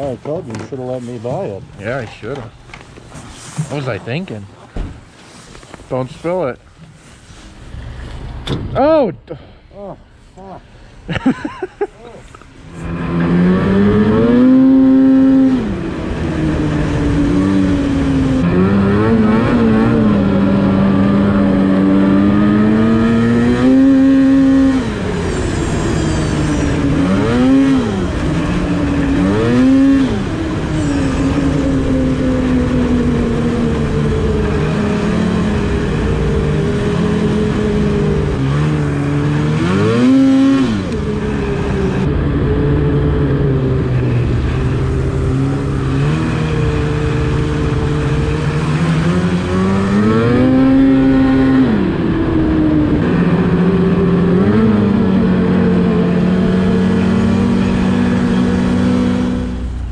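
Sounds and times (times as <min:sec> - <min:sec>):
snowmobile engine revving: 0:09.8 - 0:59.9.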